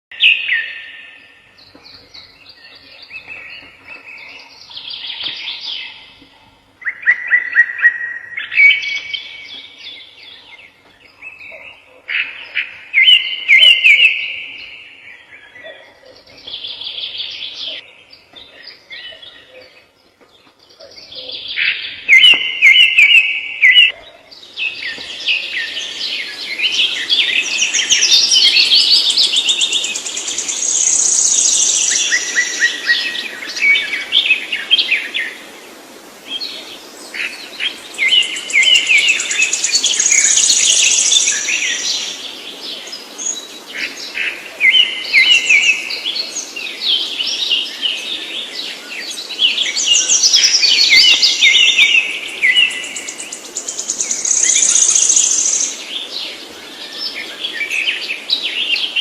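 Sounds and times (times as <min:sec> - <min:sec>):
songbirds chirping and trilling: 0:00.1 - 0:59.0.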